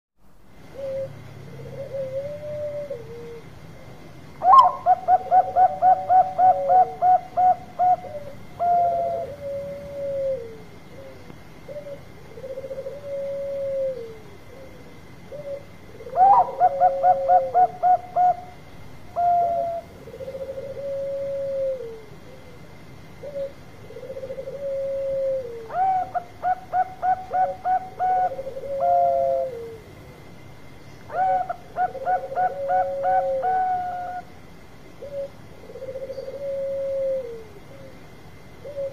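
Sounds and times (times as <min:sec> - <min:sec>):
dove cooing song: 0:00.6 - 0:30.3, 0:31.0 - 0:38.9.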